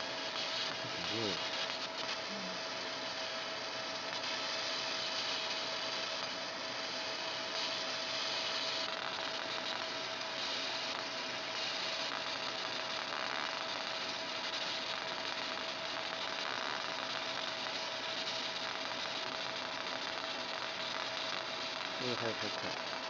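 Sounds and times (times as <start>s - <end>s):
laser machine hiss and hum: 0.0s - 23.0s.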